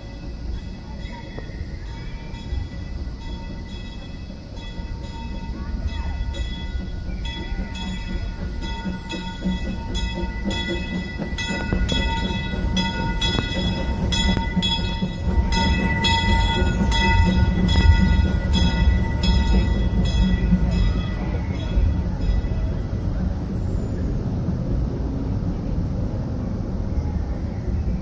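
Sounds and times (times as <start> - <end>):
steam train chugging: 0.0 - 28.0.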